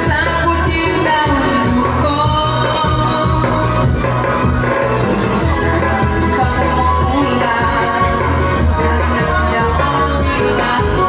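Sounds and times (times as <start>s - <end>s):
loud dance music with bass beat: 0.0s - 11.0s.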